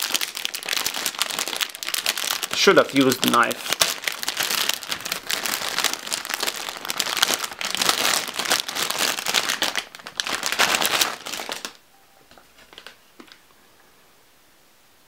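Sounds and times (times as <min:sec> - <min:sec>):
plastic bag crinkling: 0:00.0 - 0:11.8, 0:12.4 - 0:13.4.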